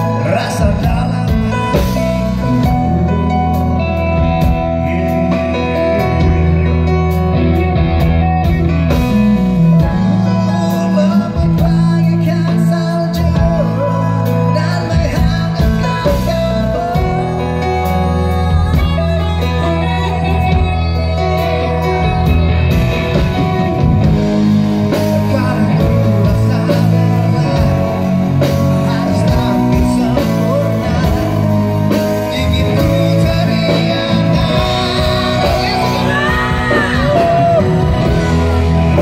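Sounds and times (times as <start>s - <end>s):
man singing: 0.0s - 7.0s, 8.2s - 24.2s, 24.8s - 39.0s
rock band playing live: 0.0s - 39.0s.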